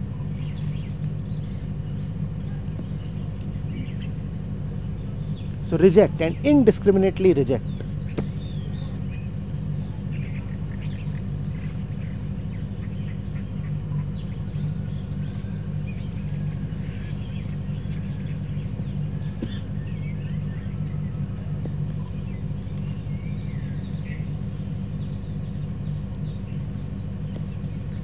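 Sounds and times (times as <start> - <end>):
birds chirping and calling: 0.0 - 28.0
steady low hum: 0.0 - 28.0.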